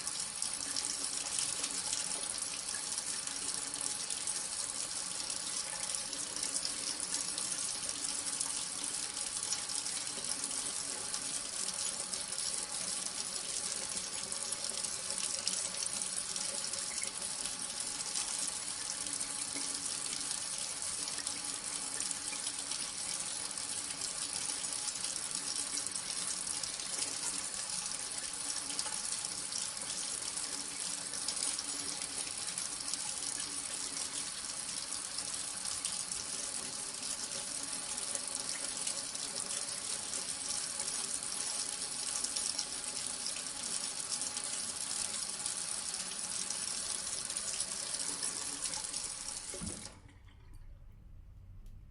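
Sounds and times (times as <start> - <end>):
tap water running into sink: 0.0 - 51.0.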